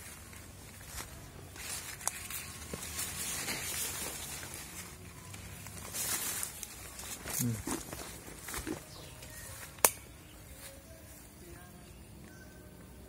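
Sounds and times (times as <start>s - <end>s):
footsteps in undergrowth: 0.0s - 11.3s
rustling in undergrowth: 0.0s - 11.6s.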